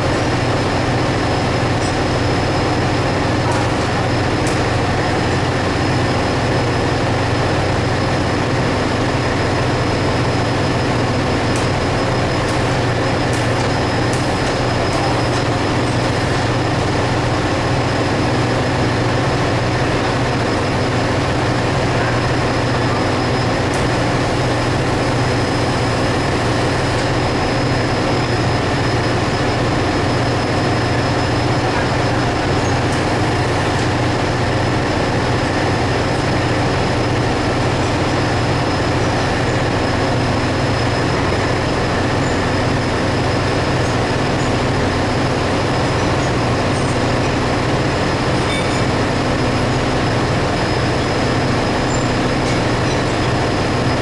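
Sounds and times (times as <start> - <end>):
engine room machinery drone: 0.0 - 54.0.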